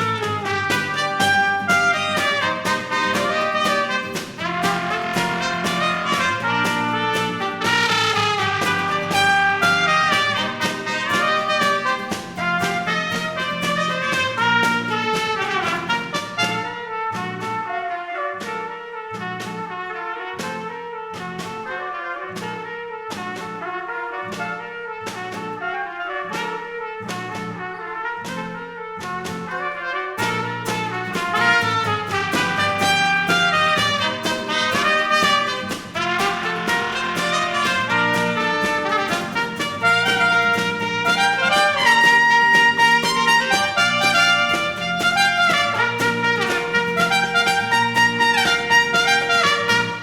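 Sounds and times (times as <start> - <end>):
brass ensemble playing: 0.0 - 50.0.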